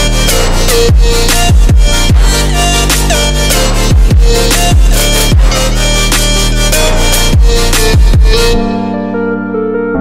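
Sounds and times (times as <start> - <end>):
deep sliding bass hits: 0.0 - 8.7
held synth chords: 0.0 - 10.0.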